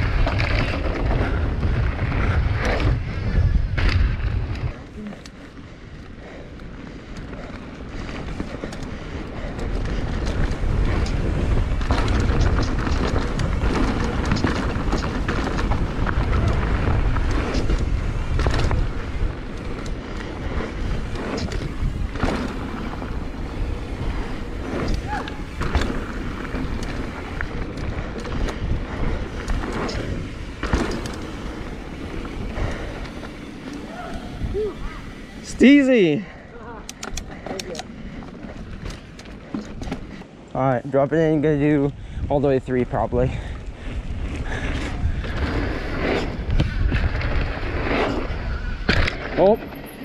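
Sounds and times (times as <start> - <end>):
tyres rolling on dirt: 0.0 - 41.9, 42.5 - 50.0
bike rattling: 0.0 - 50.0
wind rumbling on microphone: 0.0 - 50.0.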